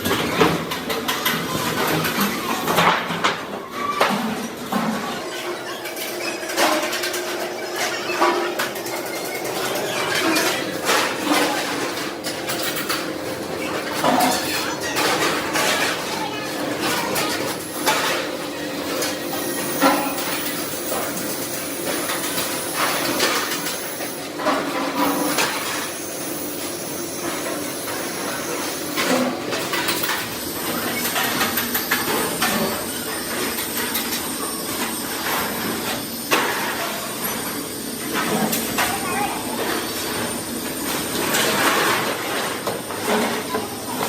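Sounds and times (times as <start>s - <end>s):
workshop noise: 0.0s - 44.0s.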